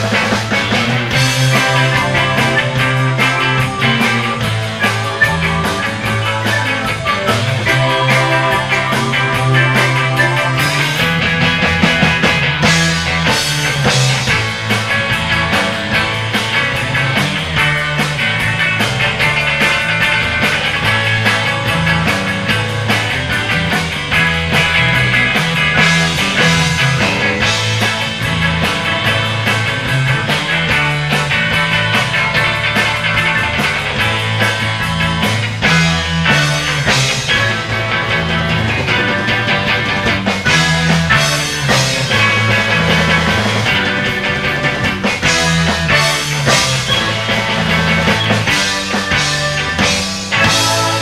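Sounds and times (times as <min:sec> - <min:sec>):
bass guitar: 0:00.0 - 0:51.0
lead electric guitar: 0:00.0 - 0:51.0
second guitar: 0:00.0 - 0:51.0
steady drum beat: 0:00.0 - 0:51.0.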